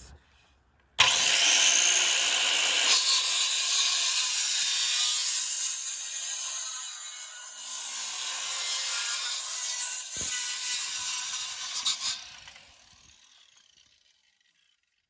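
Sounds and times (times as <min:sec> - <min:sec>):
circular saw cutting wood: 0:01.0 - 0:14.6.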